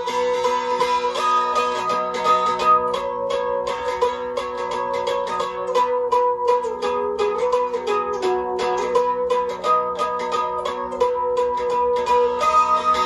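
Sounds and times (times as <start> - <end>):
dulcimer picked notes: 0.0 - 13.0.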